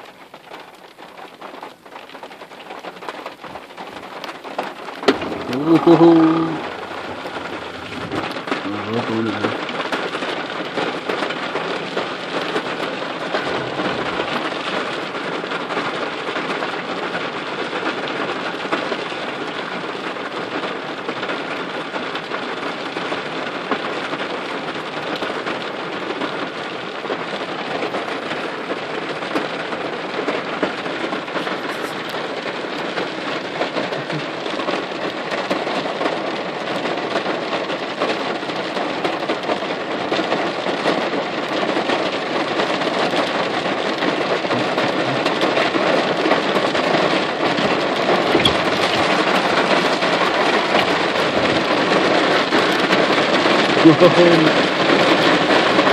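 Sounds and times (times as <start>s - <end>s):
heavy rain on window glass: 0.0s - 55.9s.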